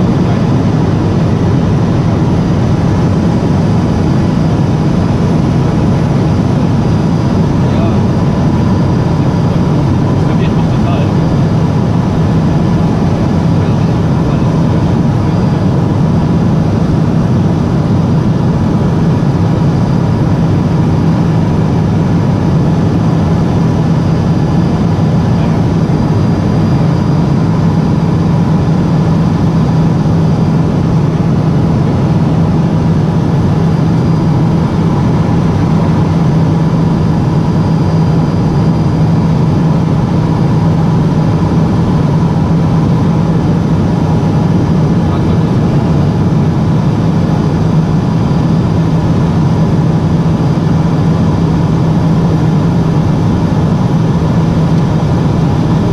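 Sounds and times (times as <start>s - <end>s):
turboprop cabin drone: 0.0s - 55.9s.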